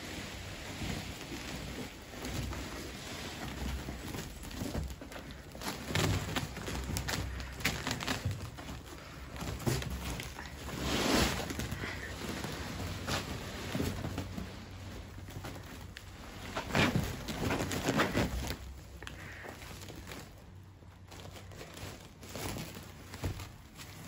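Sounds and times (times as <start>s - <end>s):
plastic bag rustling and crinkling: 0.0s - 24.0s.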